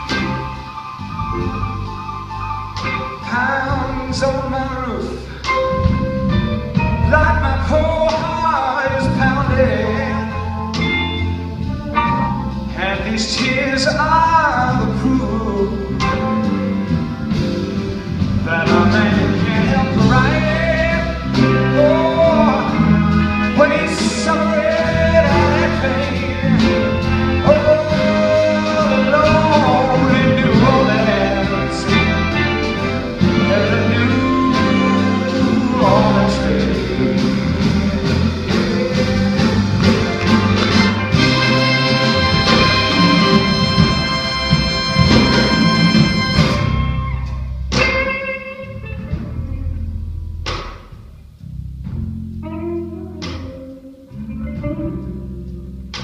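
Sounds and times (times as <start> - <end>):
bending lead guitar line: 0.0 - 51.1, 51.9 - 56.0
slow blues band: 0.0 - 56.0.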